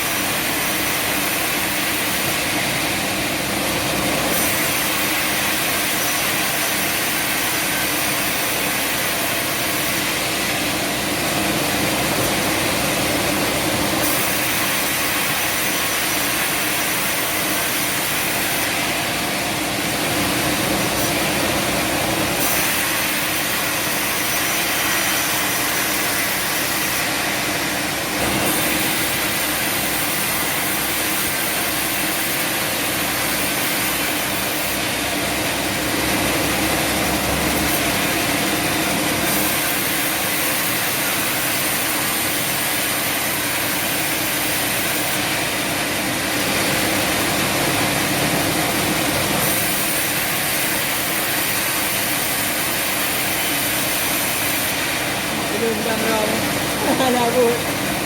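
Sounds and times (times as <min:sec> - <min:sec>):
sawmill motor running: 0:00.0 - 0:58.0.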